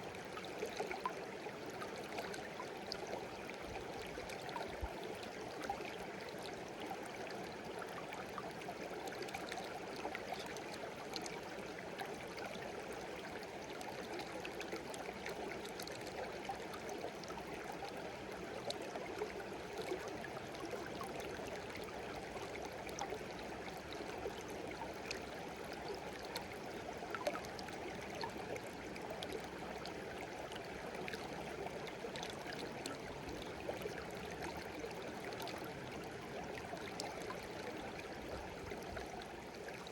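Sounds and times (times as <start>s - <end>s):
shallow stream over rocks: 0.0s - 39.9s.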